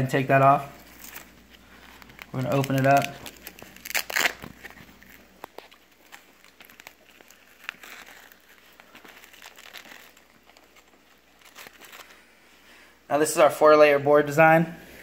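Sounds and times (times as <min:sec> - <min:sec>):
plastic packaging crinkling: 0:00.3 - 0:12.7.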